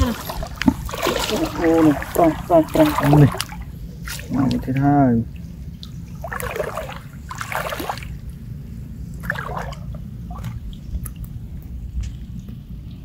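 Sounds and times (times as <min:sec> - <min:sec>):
steady low rumble: 0:00.0 - 0:13.0
water splashing and sloshing: 0:00.0 - 0:13.0.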